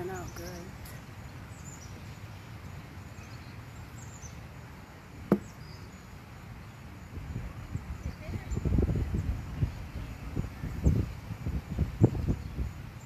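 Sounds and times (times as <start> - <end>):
outdoor background: 0.0 - 13.0.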